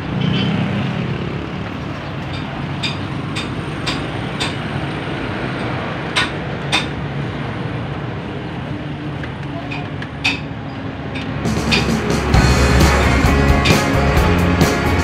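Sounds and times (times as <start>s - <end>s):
traffic: 0.0s - 15.0s
workshop background noise: 0.0s - 15.0s.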